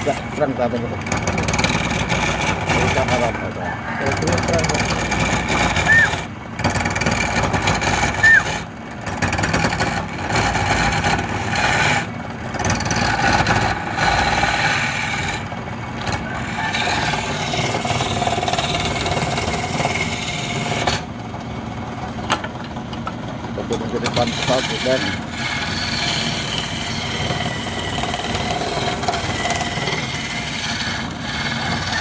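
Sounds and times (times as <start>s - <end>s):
tool scraping spinning wood: 0.0s - 32.0s
wood lathe motor running: 0.0s - 32.0s.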